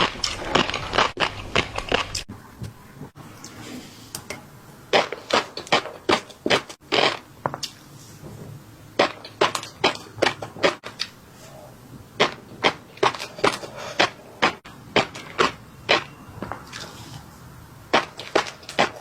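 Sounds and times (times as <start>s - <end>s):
crunchy chewing of fish roe: 0.0s - 2.4s, 4.9s - 7.9s, 9.0s - 19.0s.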